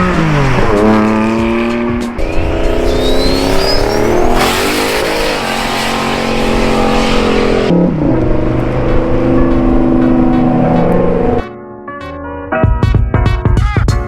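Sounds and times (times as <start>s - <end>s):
sports car engine accelerating: 0.0s - 11.5s.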